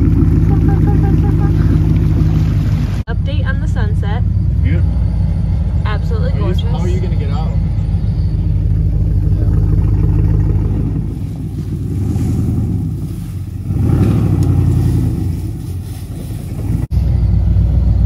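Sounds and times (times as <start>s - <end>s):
pickup truck engine rumbling: 0.0s - 18.0s.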